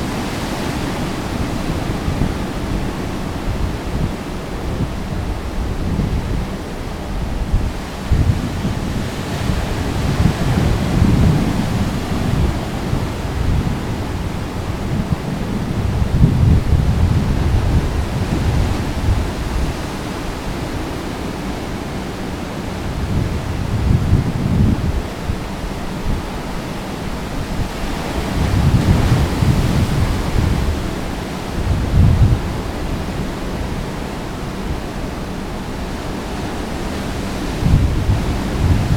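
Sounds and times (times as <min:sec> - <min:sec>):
ocean surf breaking on a beach: 0:00.0 - 0:38.9
wind rumbling on microphone: 0:00.0 - 0:38.9.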